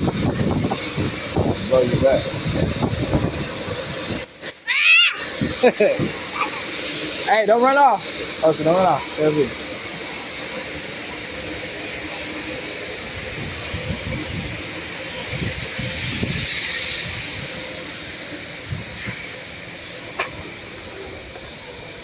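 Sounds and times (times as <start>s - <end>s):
car wash spray hiss: 0.0s - 22.0s.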